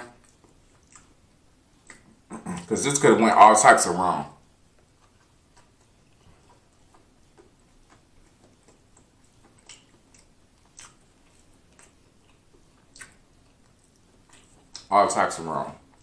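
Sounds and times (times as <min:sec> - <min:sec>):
closed-mouth chewing: 0:00.0 - 0:03.2, 0:03.9 - 0:16.0
wet mouth clicks: 0:00.1 - 0:02.7, 0:04.7 - 0:14.9.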